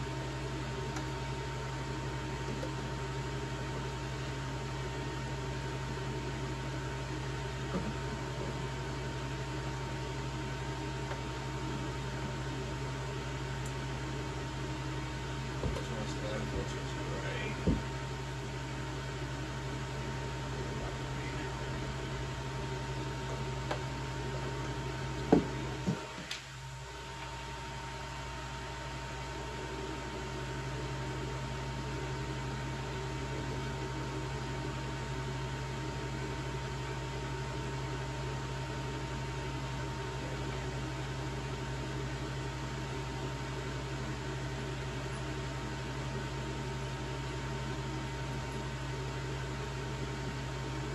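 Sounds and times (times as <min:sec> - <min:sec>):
machine humming and hissing: 0:00.0 - 0:50.9.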